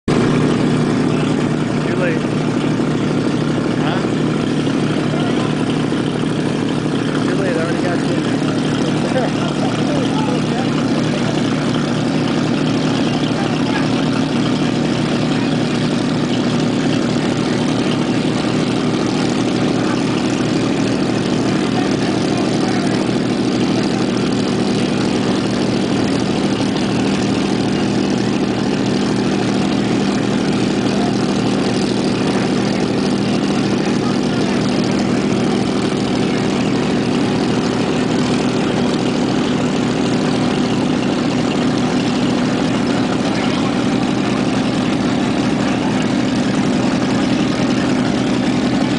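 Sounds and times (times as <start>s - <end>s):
boat engine idling: 0.1s - 48.9s.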